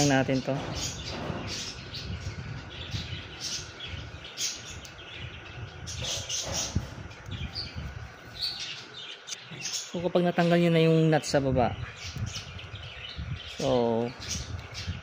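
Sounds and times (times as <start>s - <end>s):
small caged birds chirping: 0.0s - 15.0s.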